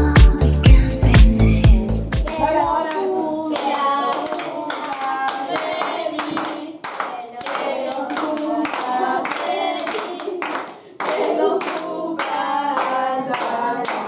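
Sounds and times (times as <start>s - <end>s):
group of people singing: 2.2s - 14.0s
hands clapping to a beat: 2.2s - 14.0s.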